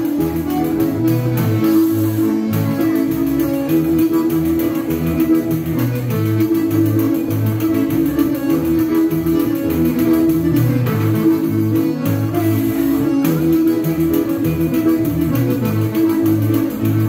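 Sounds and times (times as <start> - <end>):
accordion playing chords: 0.0 - 17.0.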